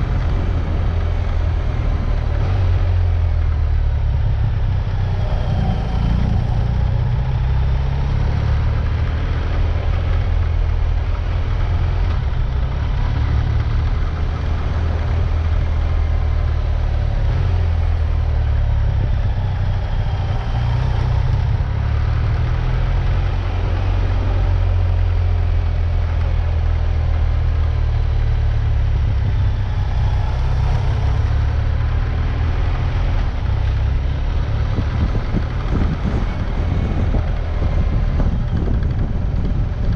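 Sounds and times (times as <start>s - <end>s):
heavy low rumble: 0.0s - 39.9s
vehicle engine running: 0.0s - 39.9s.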